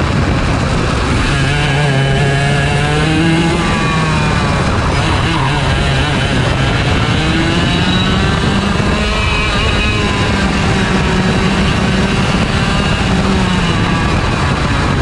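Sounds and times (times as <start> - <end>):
kart engine revving: 0.0 - 15.0.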